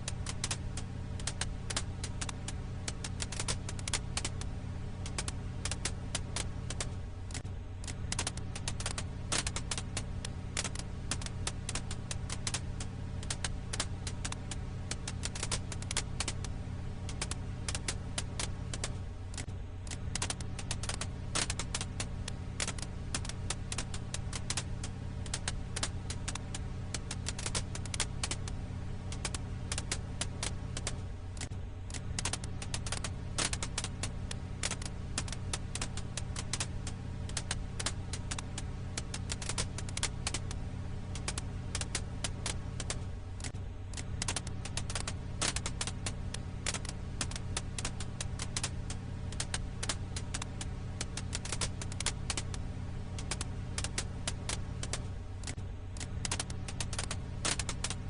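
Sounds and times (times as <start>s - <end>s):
burning firewood crackling: 0.0s - 58.0s
steady low hum: 0.0s - 58.0s.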